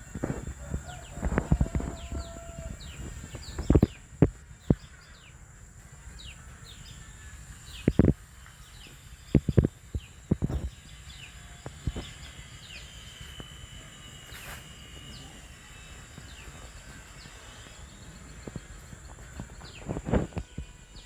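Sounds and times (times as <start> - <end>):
small birds chirping: 0.0 - 21.0
steady high hiss: 0.0 - 21.0.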